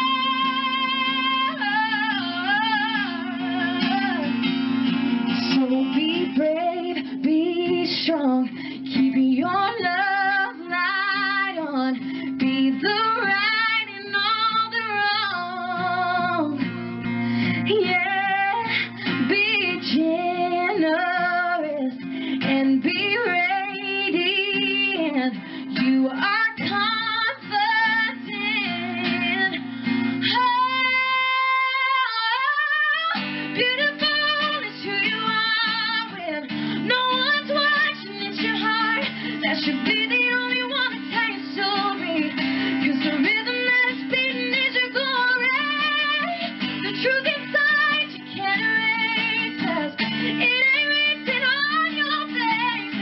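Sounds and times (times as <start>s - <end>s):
guitar accompaniment: 0.0s - 53.0s
woman singing: 0.0s - 53.0s.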